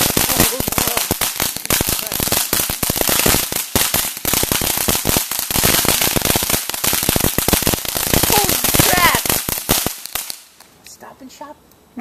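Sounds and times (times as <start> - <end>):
firework crackling pops: 0.0 - 11.0.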